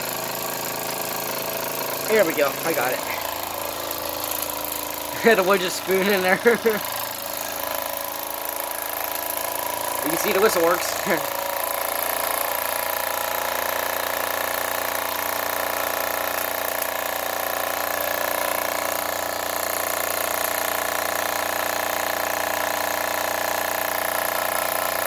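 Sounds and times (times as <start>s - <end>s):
toy steam engine running: 0.0s - 25.0s.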